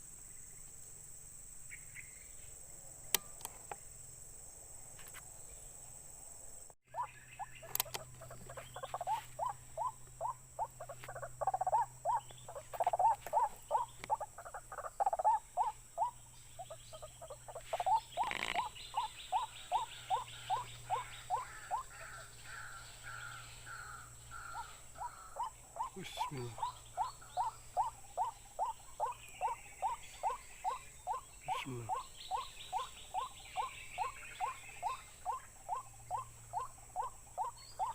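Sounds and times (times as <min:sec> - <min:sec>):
animal chirping: 0:06.9 - 0:37.9
higher chirping notes: 0:06.9 - 0:37.9.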